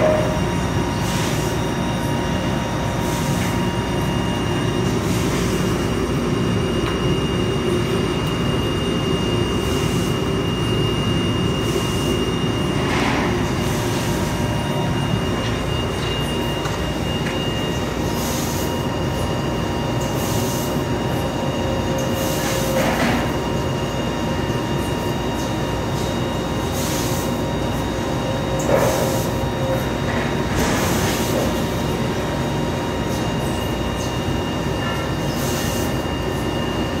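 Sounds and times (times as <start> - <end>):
laser cutter machine hum: 0.0 - 37.0.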